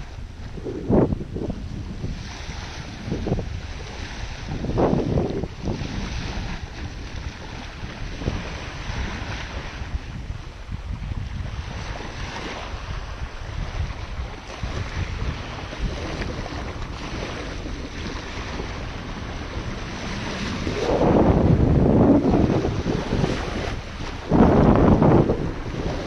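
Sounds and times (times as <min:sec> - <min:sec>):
small waves lapping on beach: 0:00.0 - 0:26.0
wind buffeting microphone: 0:00.0 - 0:26.0.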